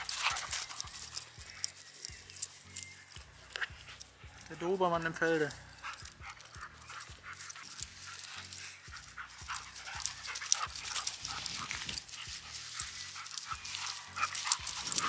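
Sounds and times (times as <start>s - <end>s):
dog panting hard: 0.0s - 1.8s, 3.5s - 4.8s, 5.5s - 15.0s.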